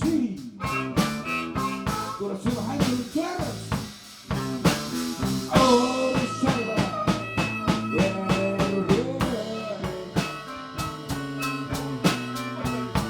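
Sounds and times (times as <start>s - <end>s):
drum kit beat: 0.0s - 13.0s
electric guitar with bent notes: 0.6s - 13.0s.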